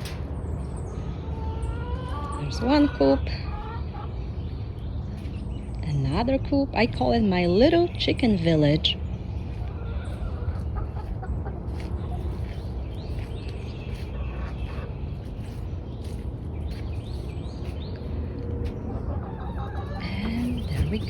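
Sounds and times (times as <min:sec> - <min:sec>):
hens clucking: 0:00.0 - 0:17.3, 0:18.3 - 0:21.0.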